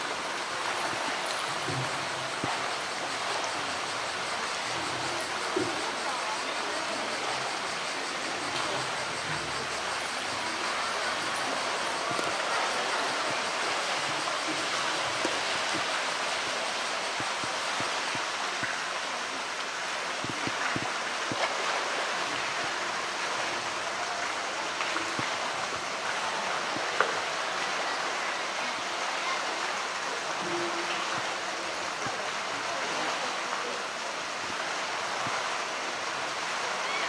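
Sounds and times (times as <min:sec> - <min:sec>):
flowing water rushing: 0:00.0 - 0:37.0.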